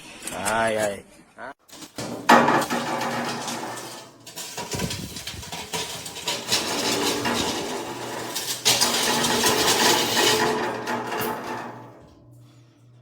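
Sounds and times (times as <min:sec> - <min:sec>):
metal clinking and scraping: 0:01.7 - 0:13.0.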